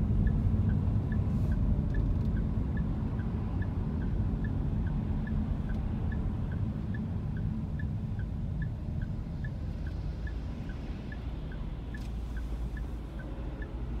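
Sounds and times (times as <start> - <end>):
low rumble of engine and road: 0.0 - 14.0
turn-signal indicator ticking: 0.0 - 14.0.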